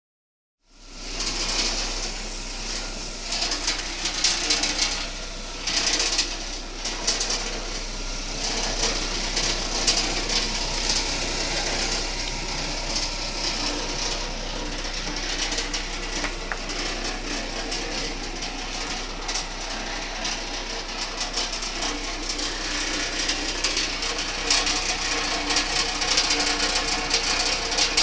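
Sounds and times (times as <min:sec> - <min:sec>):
car engine running: 0:00.8 - 0:28.0.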